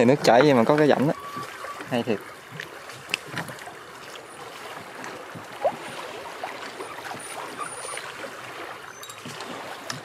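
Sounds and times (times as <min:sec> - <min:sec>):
river water rushing past boat: 0:00.0 - 0:10.0.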